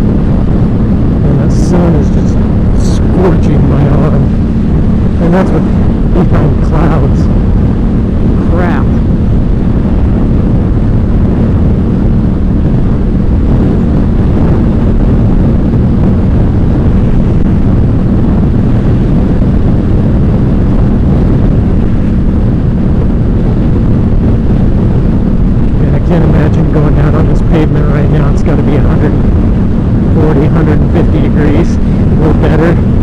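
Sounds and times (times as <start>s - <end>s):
motorcycle engine cruising: 0.0s - 33.0s.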